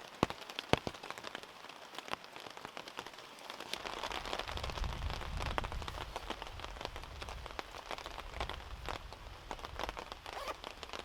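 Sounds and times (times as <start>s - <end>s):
heavy rain pattering: 0.0s - 11.0s.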